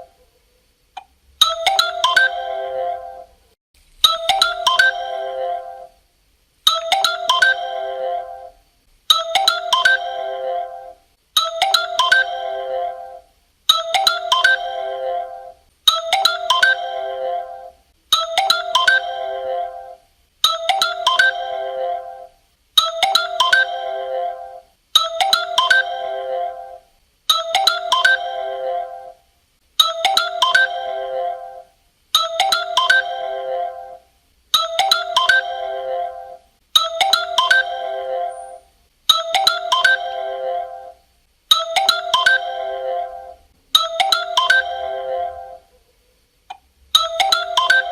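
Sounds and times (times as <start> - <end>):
phone ringtone melody: 1.4 - 3.4, 4.1 - 6.0, 6.7 - 29.2, 29.8 - 34.0, 34.6 - 45.7, 47.0 - 47.9.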